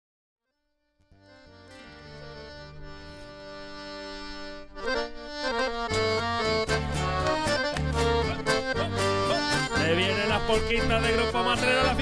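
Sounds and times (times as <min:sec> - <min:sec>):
accordion folk music: 0:00.9 - 0:12.0.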